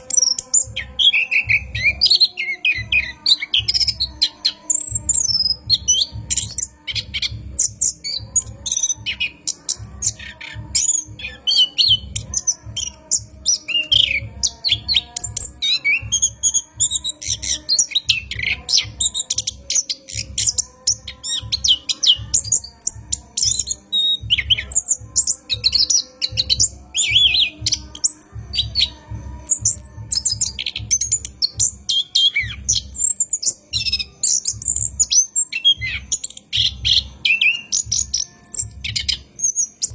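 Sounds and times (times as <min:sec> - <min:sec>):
thrush singing: 0:00.0 - 0:39.9.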